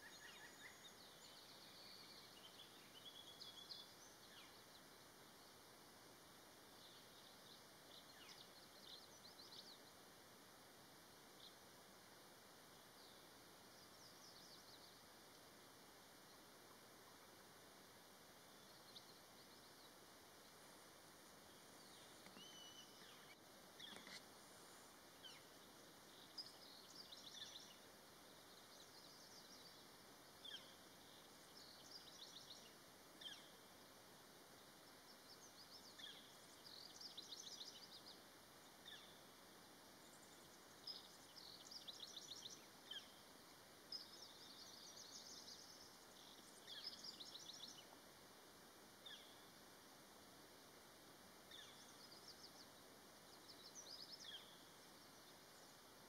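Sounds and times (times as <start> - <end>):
faint bird chirps and trills: 0.0 - 56.0
steady hiss: 0.0 - 56.0.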